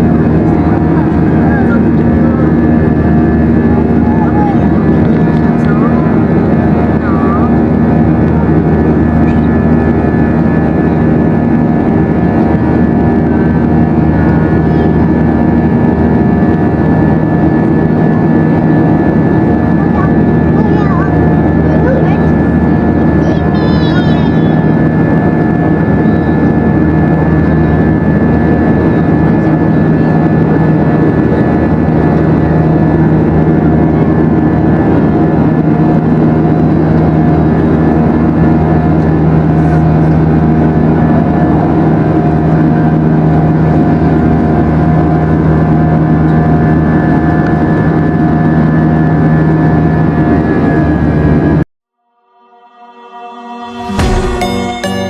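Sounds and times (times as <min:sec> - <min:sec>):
aircraft engines droning: 0:00.0 - 0:55.0.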